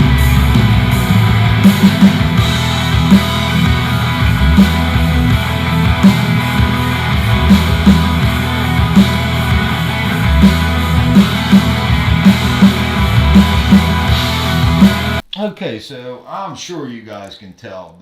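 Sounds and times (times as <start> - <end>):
distorted electric guitar: 0.0 - 15.3
steady drum beat: 0.0 - 15.6.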